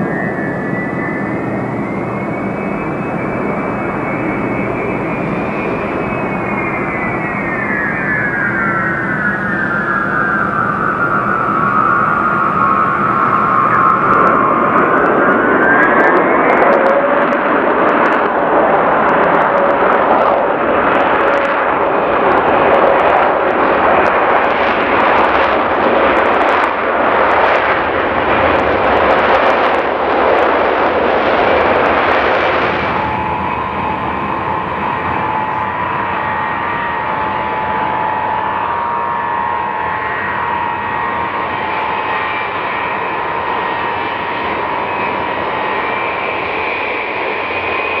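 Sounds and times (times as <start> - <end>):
jet engine roar with crackle: 0.0 - 48.0
jet engine whine: 0.0 - 48.0.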